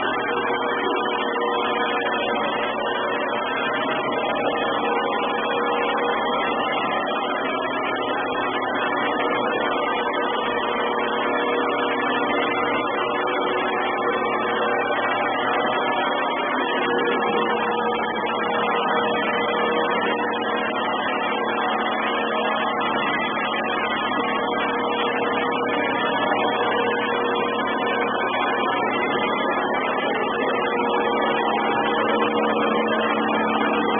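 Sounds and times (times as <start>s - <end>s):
robot vacuum cleaner drone: 0.0s - 33.9s.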